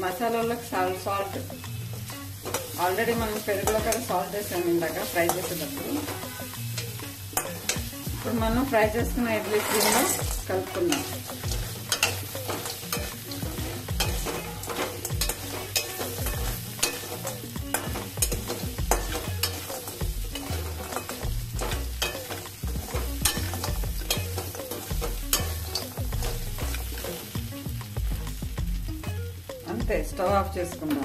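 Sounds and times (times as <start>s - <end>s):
tempering sizzling: 0.0s - 31.0s
spatula clinking and scraping a pan: 0.1s - 28.5s.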